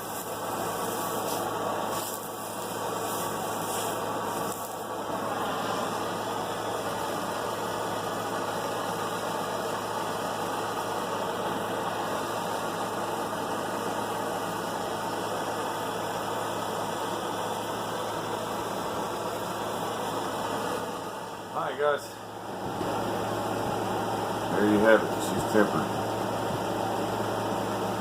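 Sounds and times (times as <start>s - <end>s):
gas torch burning: 0.0s - 28.0s.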